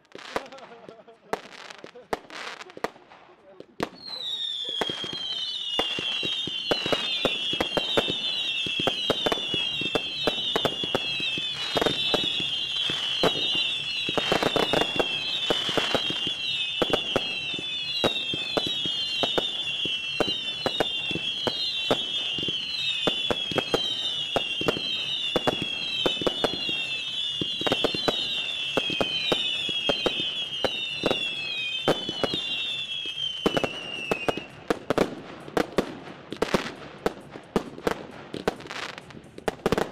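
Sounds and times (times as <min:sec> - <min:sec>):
firework pops and crackles: 0:00.0 - 0:39.9
firework whistling shots: 0:03.8 - 0:39.9.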